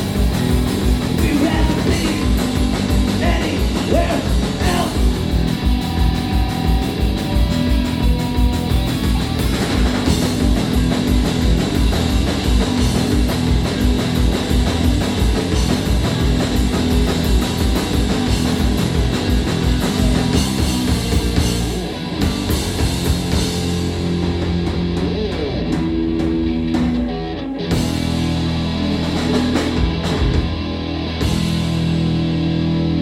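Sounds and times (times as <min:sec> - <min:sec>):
punk rock band playing live: 0:00.0 - 0:33.0.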